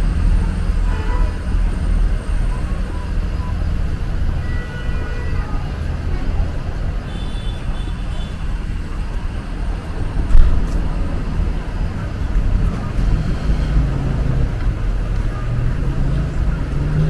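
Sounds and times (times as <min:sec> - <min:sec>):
engine hum: 0:00.0 - 0:17.0
rumble of passing vehicles: 0:00.0 - 0:17.0.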